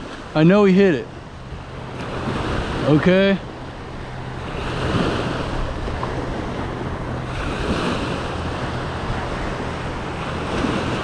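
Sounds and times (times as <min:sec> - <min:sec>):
wind rumbling on microphone: 0:00.0 - 0:11.0
surf breaking on beach: 0:01.7 - 0:11.0.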